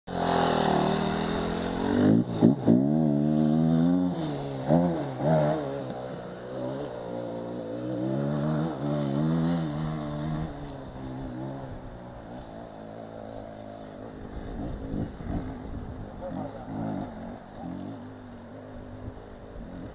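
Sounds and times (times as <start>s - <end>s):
dirt bike engines idling and revving: 0.1s - 19.9s.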